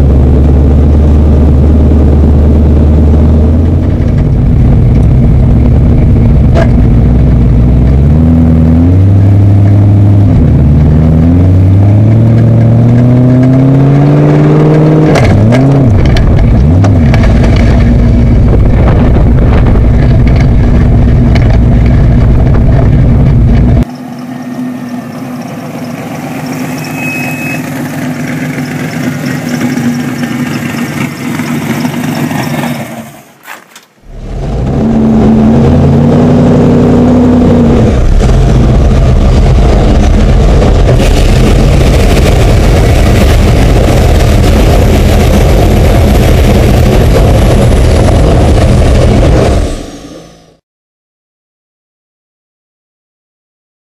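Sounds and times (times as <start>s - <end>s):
truck engine running: 0.0s - 33.4s, 34.0s - 50.6s.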